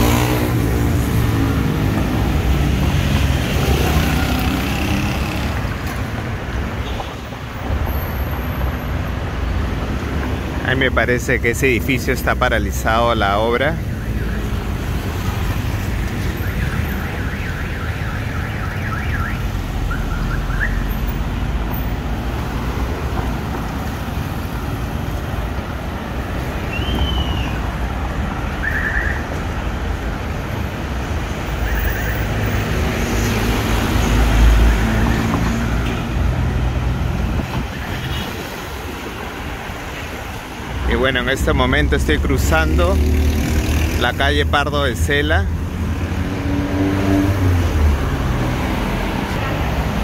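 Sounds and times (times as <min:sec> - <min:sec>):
rumble of passing traffic: 0:00.0 - 0:50.0.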